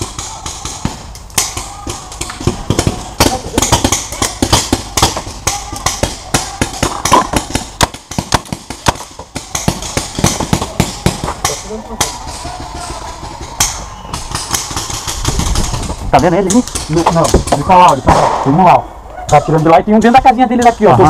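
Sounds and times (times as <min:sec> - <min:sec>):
paintball markers firing: 0:00.0 - 0:18.6.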